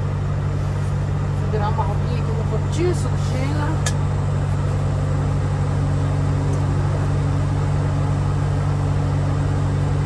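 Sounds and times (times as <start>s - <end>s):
truck diesel engine idling: 0.0s - 10.0s.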